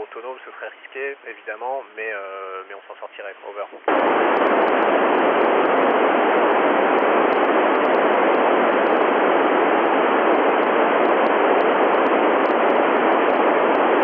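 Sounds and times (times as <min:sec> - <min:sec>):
radio receiver hiss: 0:00.0 - 0:14.0.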